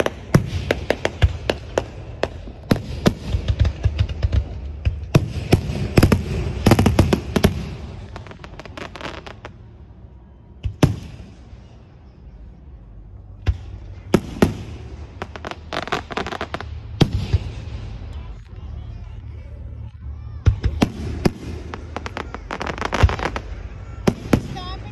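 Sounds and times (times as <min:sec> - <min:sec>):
fireworks bursting with bangs: 0:00.0 - 0:09.6, 0:10.6 - 0:11.8, 0:13.4 - 0:18.1, 0:20.5 - 0:24.9.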